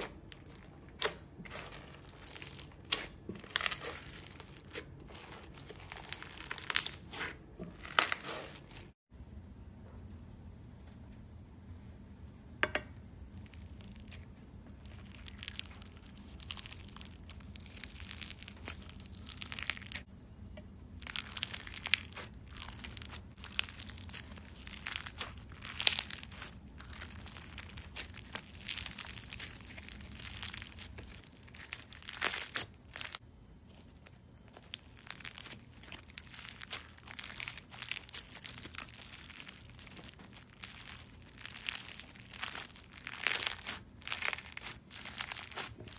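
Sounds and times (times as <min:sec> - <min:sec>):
crunchy slime crackling: 0:00.0 - 0:09.0, 0:13.3 - 0:20.1, 0:21.0 - 0:45.9.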